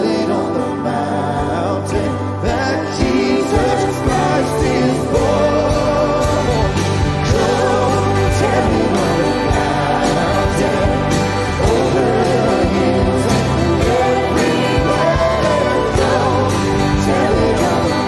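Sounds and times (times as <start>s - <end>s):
children's choir singing: 0.0s - 18.0s
acoustic guitar strumming: 2.5s - 18.0s
steady drum beat: 2.5s - 18.0s.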